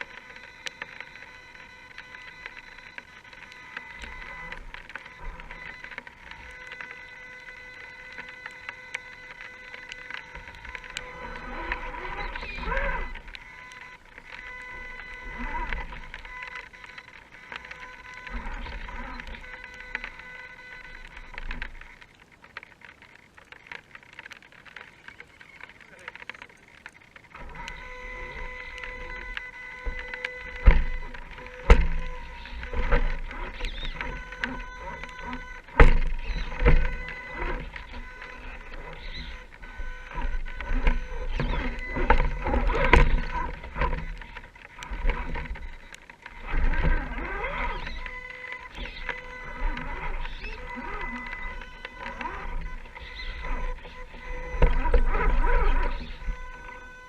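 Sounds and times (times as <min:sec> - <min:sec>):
clicks and knocks: 0:00.0 - 0:56.9
electric motor and gearbox whining: 0:00.0 - 0:57.0.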